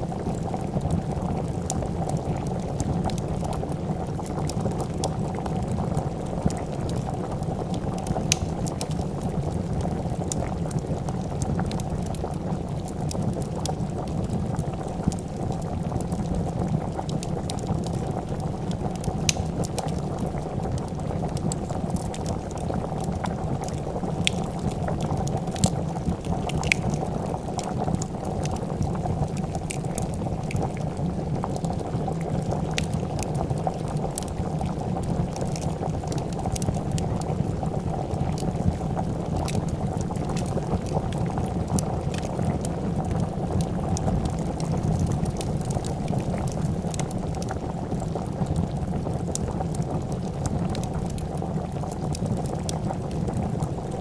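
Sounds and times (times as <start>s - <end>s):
soup boiling: 0.0s - 54.0s
wood fire crackling: 0.0s - 54.0s.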